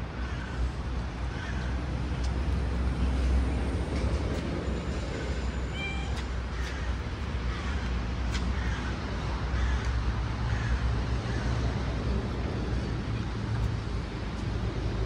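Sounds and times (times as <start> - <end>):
low rumble of street traffic: 0.0 - 15.0
vehicle engine running nearby: 0.0 - 15.0.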